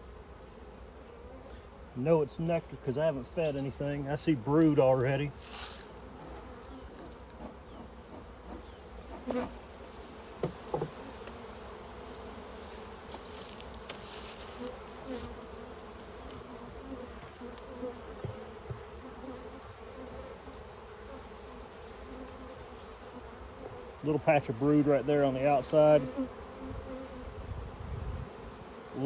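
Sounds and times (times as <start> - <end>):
honey bees buzzing: 0.0 - 29.0.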